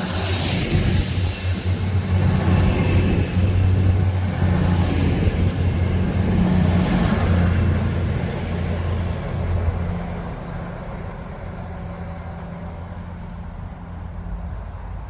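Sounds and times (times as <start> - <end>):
diesel train engines running: 0.0 - 15.0.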